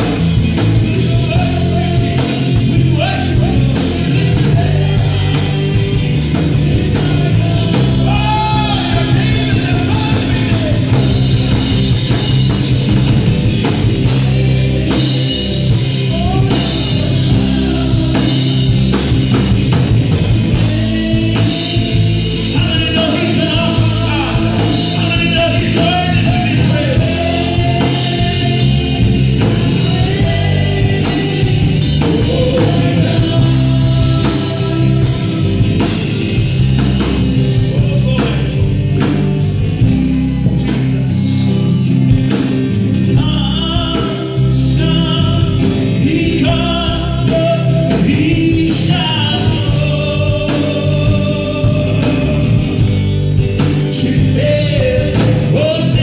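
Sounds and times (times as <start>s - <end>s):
backing singers: 0.0s - 56.0s
electric guitars: 0.0s - 56.0s
man singing into microphone: 0.8s - 11.7s, 14.0s - 19.0s, 20.5s - 36.6s, 37.4s - 38.7s, 42.9s - 52.9s, 53.7s - 56.0s.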